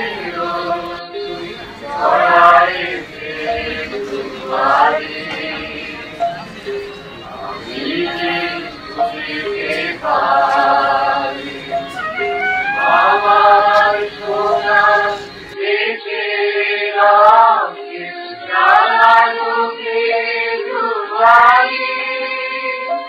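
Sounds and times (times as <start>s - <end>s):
low background noise: 0.0s - 23.0s
song with singing voices: 0.0s - 23.0s.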